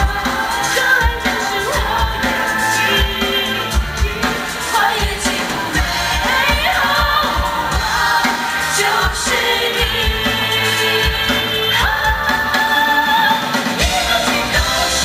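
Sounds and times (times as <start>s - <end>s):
musical accompaniment with beat: 0.0s - 15.0s.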